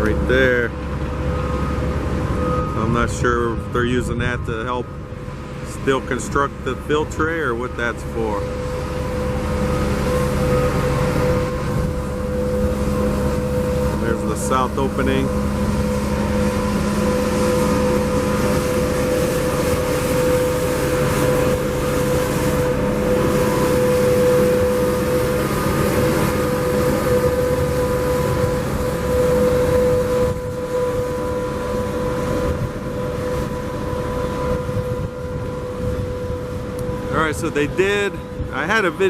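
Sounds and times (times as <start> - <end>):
steady mechanical hum: 0.0 - 39.0
wind buffeting the microphone: 0.9 - 39.0.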